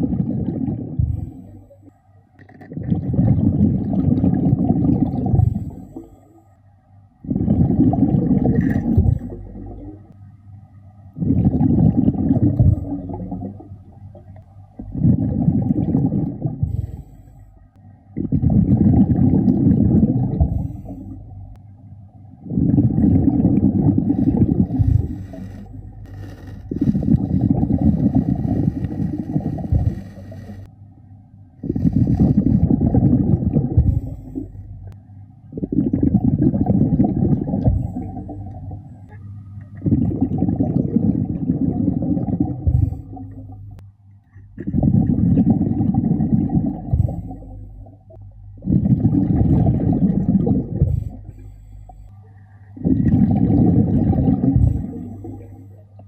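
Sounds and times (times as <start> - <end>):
exhaled bubbles underwater: 0.0 - 6.3, 7.2 - 10.2, 11.1 - 17.3, 18.0 - 21.6, 22.3 - 30.7, 31.6 - 43.8, 44.5 - 56.0.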